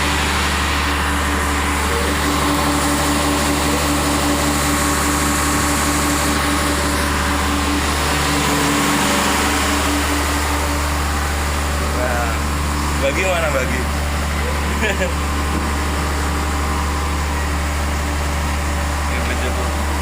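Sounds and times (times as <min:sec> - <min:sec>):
train carriage mechanical hum: 0:00.0 - 0:20.0.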